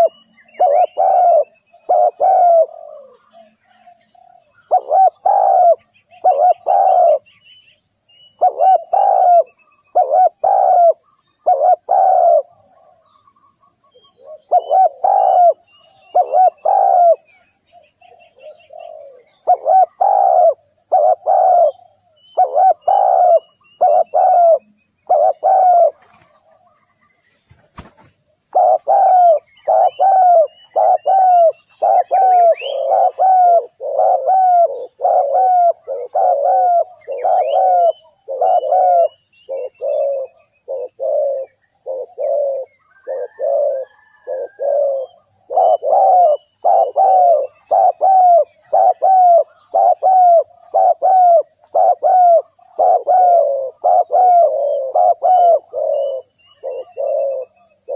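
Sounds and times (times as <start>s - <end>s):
doves cooing: 0.0s - 7.3s, 8.4s - 57.9s
faint small bird chirps: 0.0s - 57.9s.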